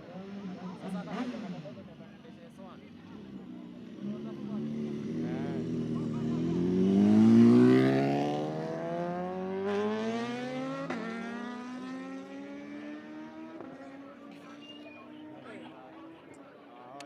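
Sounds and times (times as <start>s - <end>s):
motorbike engine accelerating: 0.0s - 16.3s.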